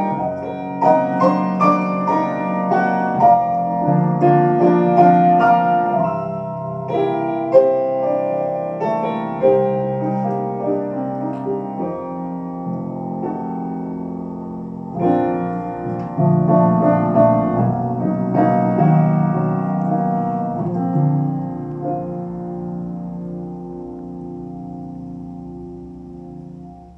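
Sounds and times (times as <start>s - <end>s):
piano notes and chords: 0.0s - 26.9s.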